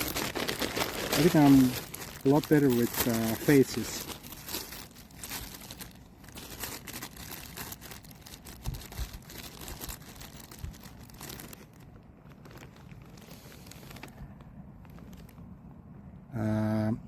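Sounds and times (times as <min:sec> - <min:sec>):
crinkling and rustling: 0:00.0 - 0:15.8.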